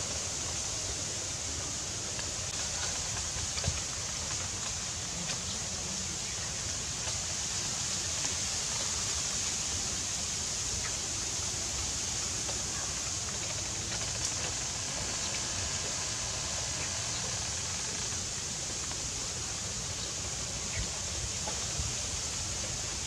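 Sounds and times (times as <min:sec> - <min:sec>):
outdoor hiss: 0:00.0 - 0:23.0
faint crackles: 0:00.1 - 0:23.0.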